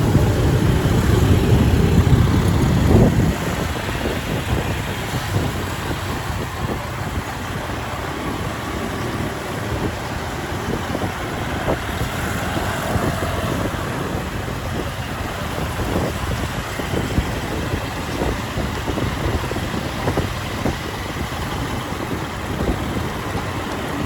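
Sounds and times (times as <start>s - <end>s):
motorcycle engine and road rumble: 0.0s - 24.0s
surrounding traffic noise: 0.0s - 24.0s.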